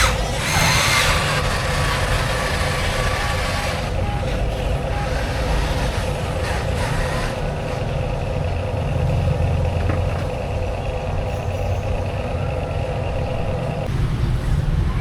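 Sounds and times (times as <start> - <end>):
low mechanical hum: 0.0 - 13.9.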